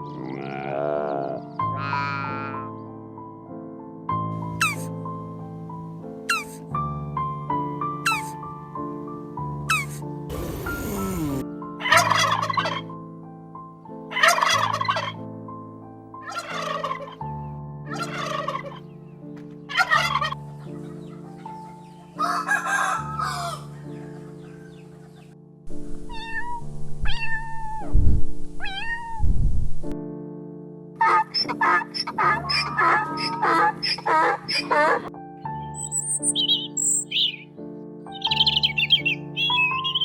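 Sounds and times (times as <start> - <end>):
piano music: 1.3 - 40.0.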